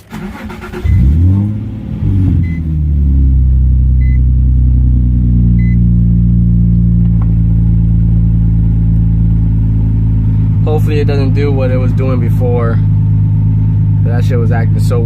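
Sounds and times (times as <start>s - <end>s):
car engine starting and idling: 0.0s - 15.0s.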